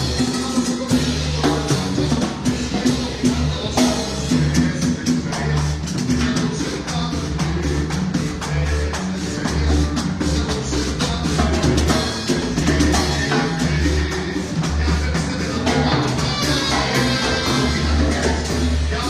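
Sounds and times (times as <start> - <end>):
bass line: 0.0 - 19.0
drum kit steady beat: 0.0 - 19.0
live band playing: 0.0 - 19.0.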